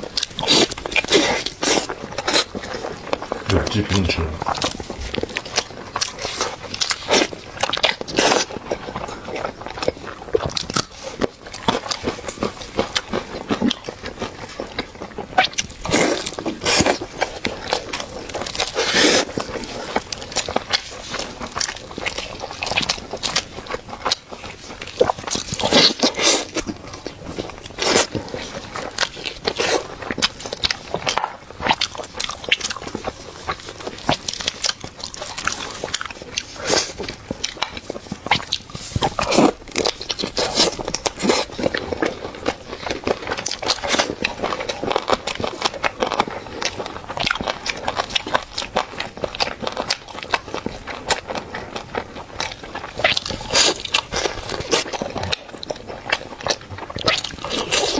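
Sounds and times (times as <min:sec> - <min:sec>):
person chewing crunchy chicken: 0:00.0 - 0:57.9.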